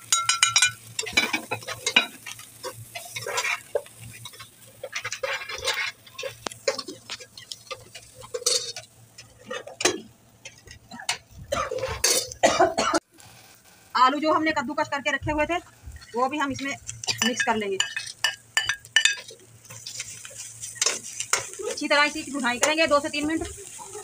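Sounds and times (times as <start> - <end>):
spoon scraping a frying pan: 0.0 - 12.4, 16.9 - 24.0.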